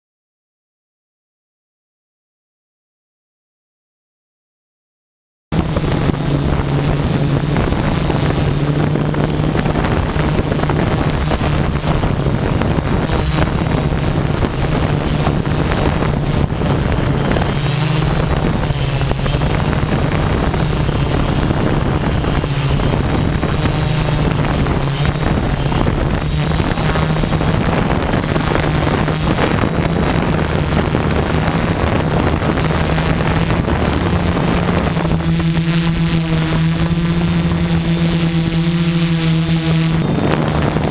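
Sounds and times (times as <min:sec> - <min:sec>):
quadcopter motors humming: 0:05.5 - 0:40.9
wind buffeting microphone: 0:05.5 - 0:40.9.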